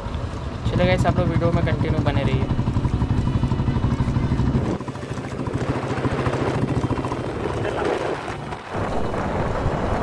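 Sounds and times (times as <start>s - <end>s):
road and wind noise: 0.0s - 10.0s
motorcycle engine running: 0.3s - 9.4s.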